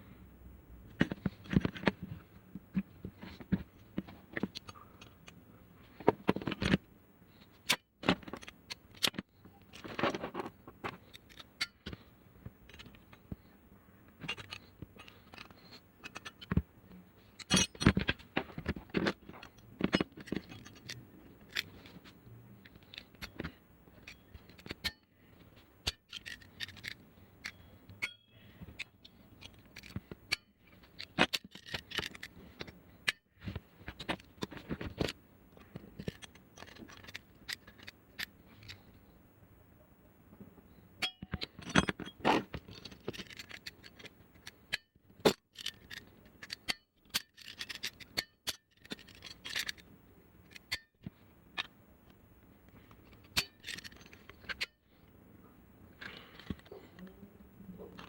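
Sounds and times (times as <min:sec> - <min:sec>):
tools clicking tapping and scraping: 0:00.9 - 0:06.8, 0:07.4 - 0:13.5, 0:14.1 - 0:39.1, 0:41.0 - 0:55.0, 0:56.0 - 0:57.2.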